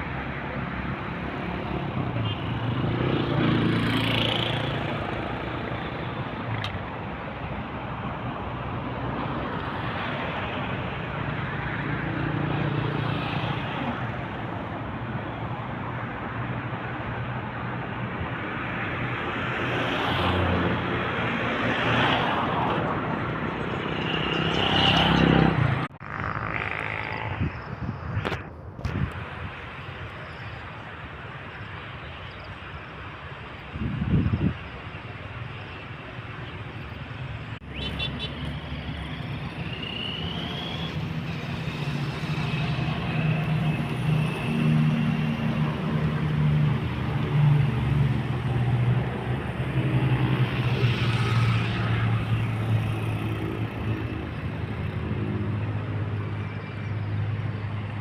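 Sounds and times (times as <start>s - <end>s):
steady traffic hum: 0.0s - 58.0s
vehicles passing: 0.0s - 58.0s.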